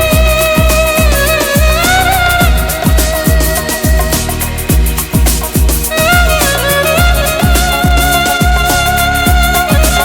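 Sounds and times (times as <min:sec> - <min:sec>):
deep drum thumps: 0:00.0 - 0:10.0
held melodic line: 0:00.0 - 0:10.0.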